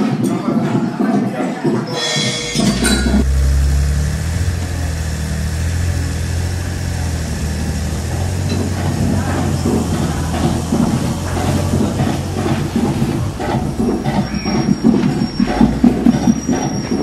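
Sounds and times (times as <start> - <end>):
low engine-like drone: 2.1 - 17.0.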